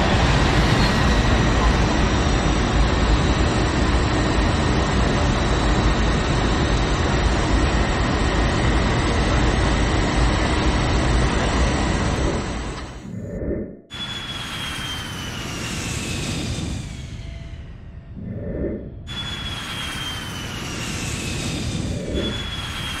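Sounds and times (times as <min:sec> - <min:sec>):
faint high whine: 0:00.0 - 0:23.0
jet engine and cabin rumble: 0:00.0 - 0:23.0.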